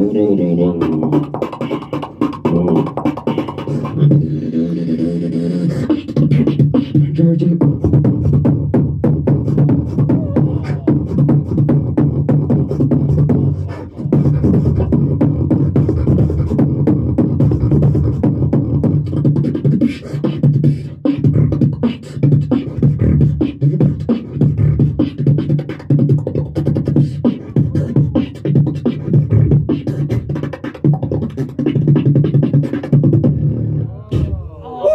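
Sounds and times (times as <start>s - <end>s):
beatboxing into a microphone: 0.0s - 34.9s.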